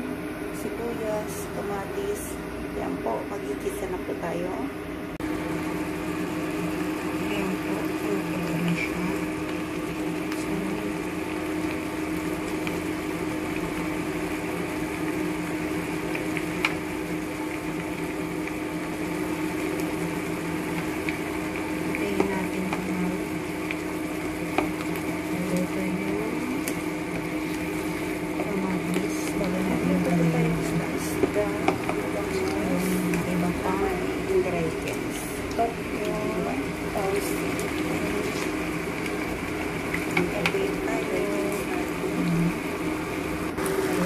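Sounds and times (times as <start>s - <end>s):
food sizzling in a frying pan: 0.0s - 44.0s
steady hum: 0.0s - 44.0s.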